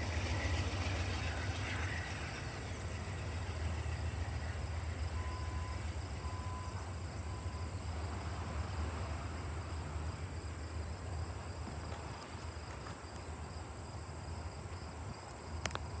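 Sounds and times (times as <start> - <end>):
passenger train rumble: 0.0 - 16.0
insects chirping: 0.1 - 16.0.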